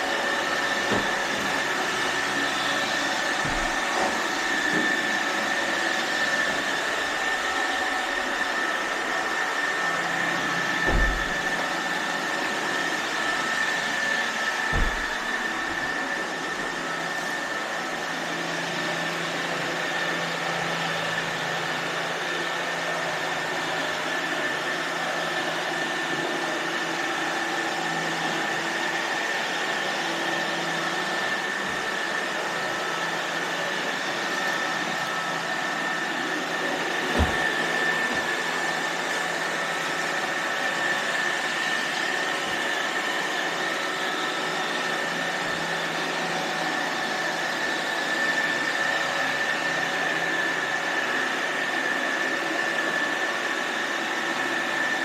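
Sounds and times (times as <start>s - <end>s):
robot vacuum motor hum: 0.0s - 25.2s, 26.0s - 51.4s.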